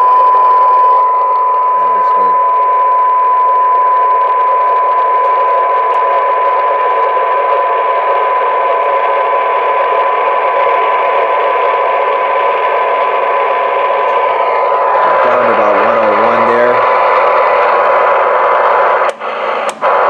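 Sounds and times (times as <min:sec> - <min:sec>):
steady test tone: 0:00.0 - 0:20.0
radio receiver hiss: 0:03.9 - 0:20.0.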